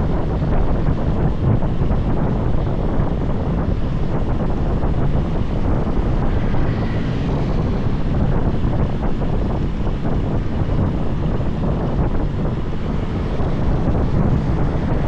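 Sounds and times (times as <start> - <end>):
motorbike running: 0.0 - 15.0
road noise: 0.0 - 15.0
wind buffeting microphone: 0.0 - 15.0.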